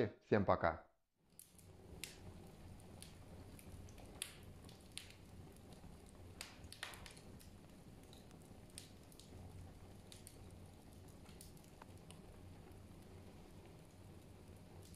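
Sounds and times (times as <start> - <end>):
wood fire crackling and popping: 1.2 - 14.9.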